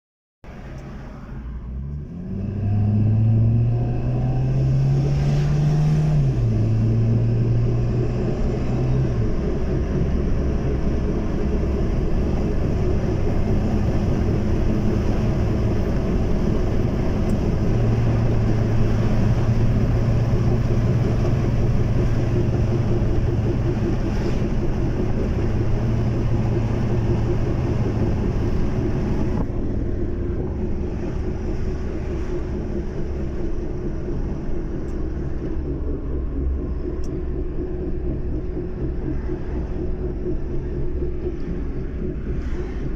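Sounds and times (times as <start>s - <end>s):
road rumble: 0.4s - 42.9s
car engine accelerating: 0.5s - 42.9s
growling wheel bearing hum: 0.6s - 42.9s.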